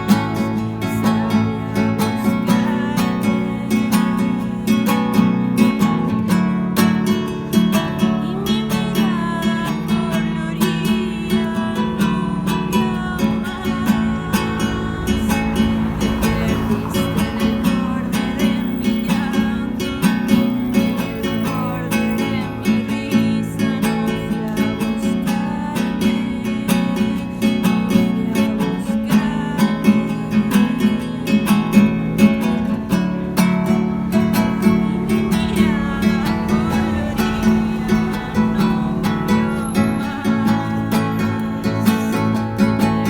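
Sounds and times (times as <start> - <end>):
acoustic guitar song: 0.0 - 43.0.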